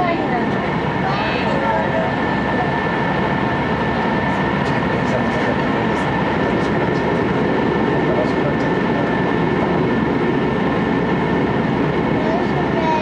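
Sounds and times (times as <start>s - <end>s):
railcar cabin rumble: 0.0s - 13.0s.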